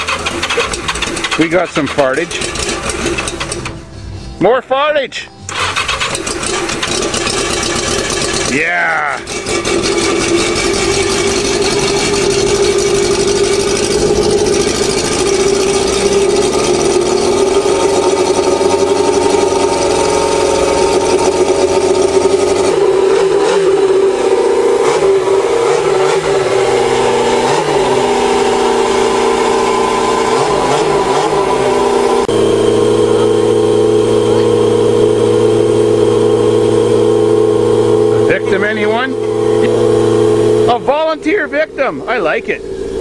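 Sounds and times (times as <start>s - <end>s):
motorcycle engine running rough: 0.0s - 3.8s, 5.5s - 43.0s.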